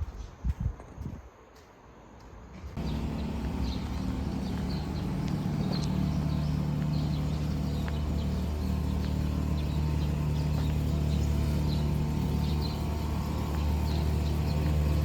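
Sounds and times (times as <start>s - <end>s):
low mechanical hum: 2.6s - 15.0s.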